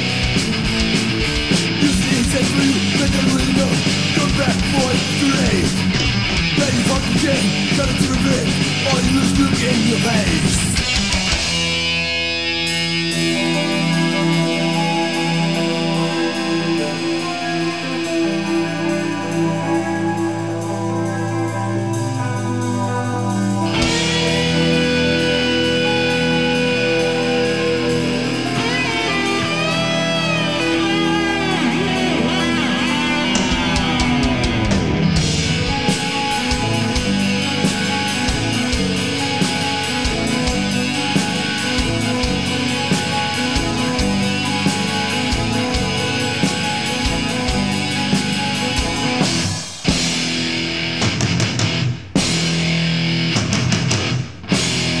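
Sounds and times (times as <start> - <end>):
drums and cymbals: 0.0 - 55.0
electric guitar lead: 0.0 - 55.0.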